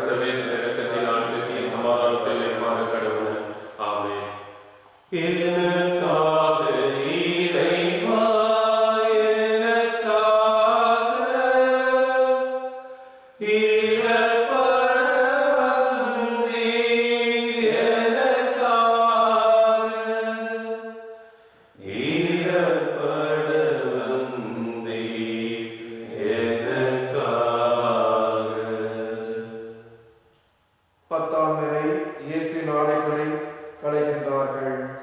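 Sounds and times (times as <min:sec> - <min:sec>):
slow chant-like hymn singing: 0:00.0 - 0:30.2.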